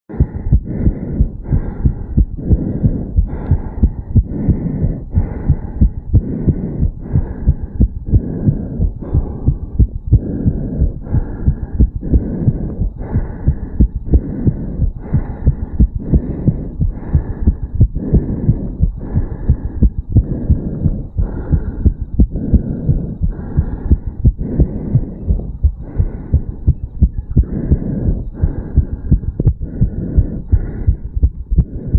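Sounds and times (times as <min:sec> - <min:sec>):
fast heartbeat: 0:00.1 - 0:31.9.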